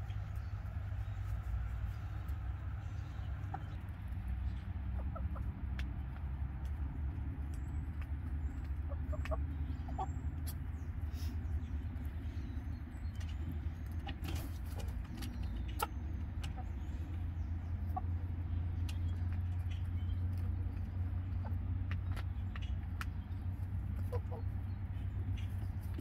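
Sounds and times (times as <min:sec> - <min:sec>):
hens clucking softly: 0:00.0 - 0:26.0
steady low rumble: 0:00.0 - 0:26.0.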